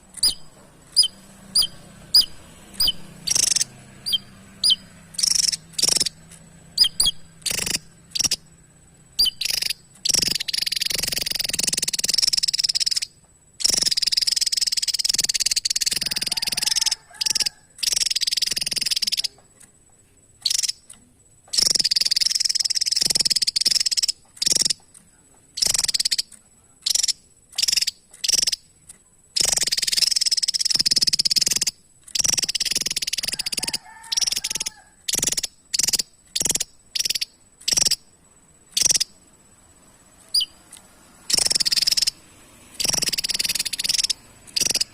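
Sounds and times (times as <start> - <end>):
bird singing: 0.0 - 44.9.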